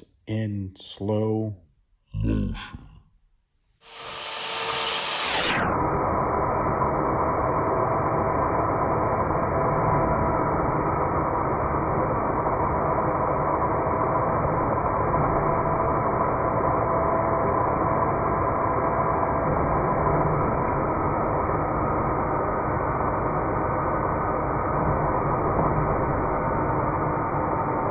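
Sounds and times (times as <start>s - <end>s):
slowed band saw drone: 3.8s - 27.9s.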